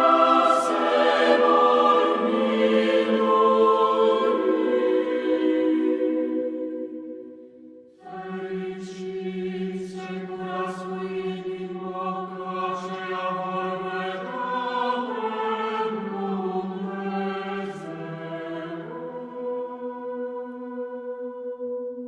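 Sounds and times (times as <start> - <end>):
choir singing a slow chant: 0.0 - 22.0.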